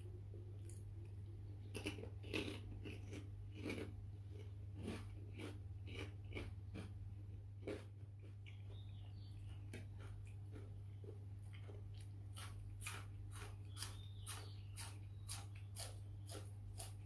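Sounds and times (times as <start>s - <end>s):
low steady hum: 0.0s - 17.0s
person chewing and crunching: 0.6s - 17.0s.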